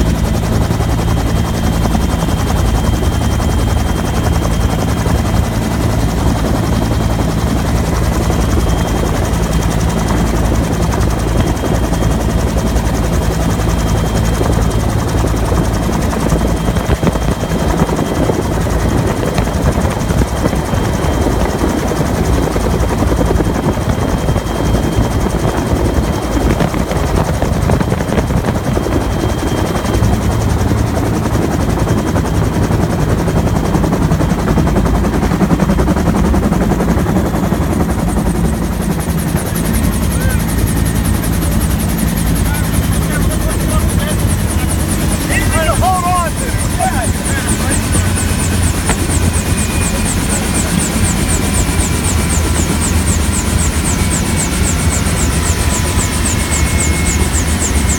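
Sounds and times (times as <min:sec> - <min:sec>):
helicopter rotor drone: 0:00.0 - 0:57.9
high turbine whine: 0:00.0 - 0:57.9.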